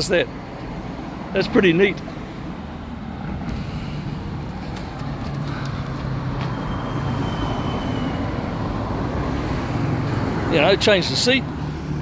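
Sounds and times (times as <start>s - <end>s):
street traffic: 0.0s - 12.0s
vehicle engine humming: 0.0s - 12.0s.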